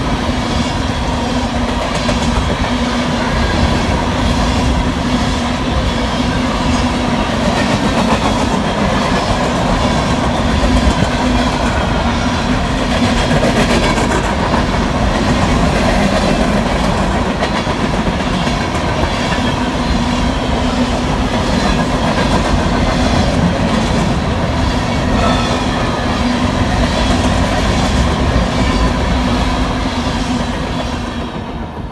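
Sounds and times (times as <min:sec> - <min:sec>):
freight train rumbling past: 0:00.0 - 0:31.9.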